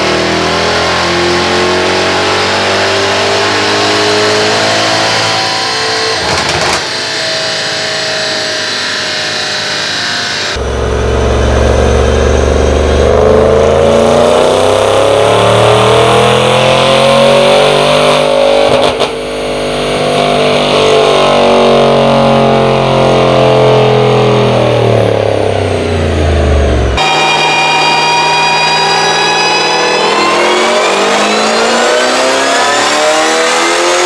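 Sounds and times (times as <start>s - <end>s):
engine exhaust revving: 0.0s - 34.0s.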